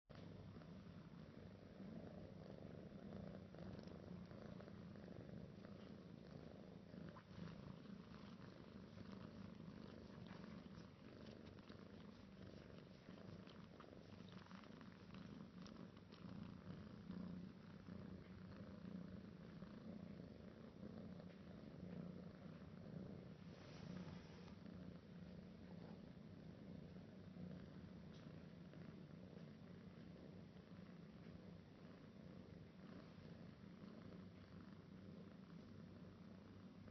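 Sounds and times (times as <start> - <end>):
kitten purring: 0.0 - 36.9
faint ticks and rustles: 0.1 - 36.9.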